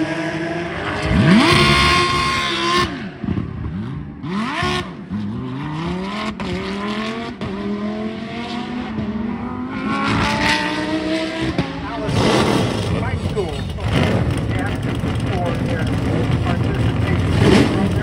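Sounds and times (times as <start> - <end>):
racing car engines accelerating: 0.0 - 18.0.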